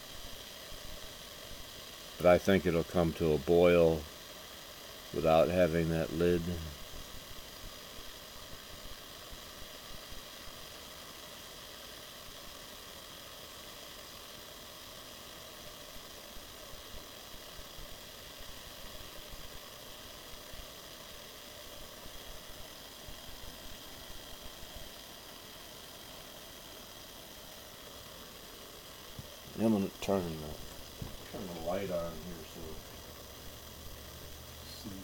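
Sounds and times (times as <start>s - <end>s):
water hissing near boiling: 0.0s - 35.0s.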